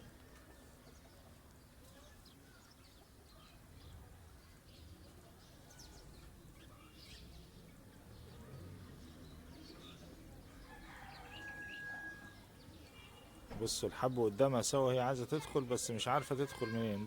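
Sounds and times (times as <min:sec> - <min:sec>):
small birds chirping faintly: 0:00.0 - 0:17.0.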